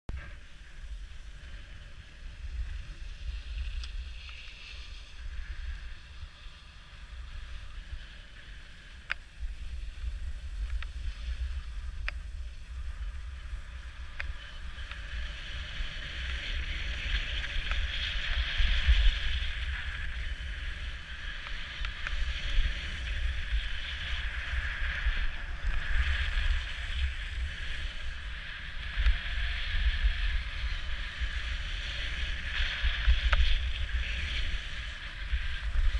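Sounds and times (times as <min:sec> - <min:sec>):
wind rumbling on microphone: 0:00.1 - 0:35.9
scrape of sliding on snow: 0:00.2 - 0:35.9.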